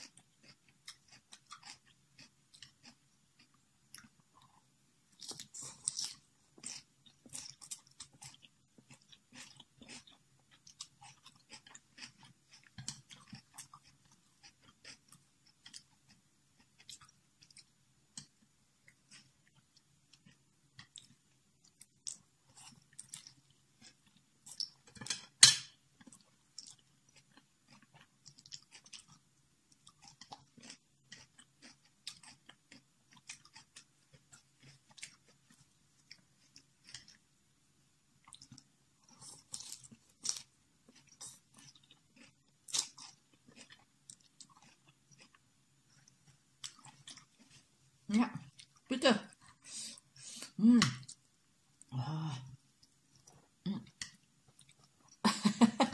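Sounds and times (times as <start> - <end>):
person chewing noodles: 0.0 - 25.0, 26.0 - 37.3, 38.2 - 47.8, 52.6 - 55.3.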